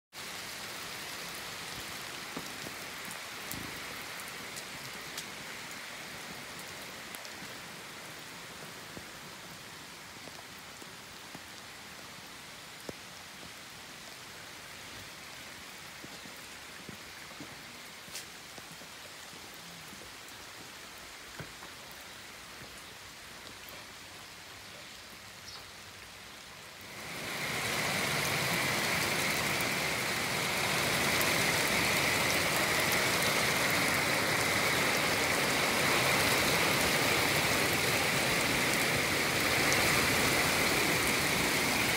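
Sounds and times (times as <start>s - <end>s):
heavy rain on patio: 0.1s - 41.9s
rain on corrugated roof: 0.1s - 41.9s.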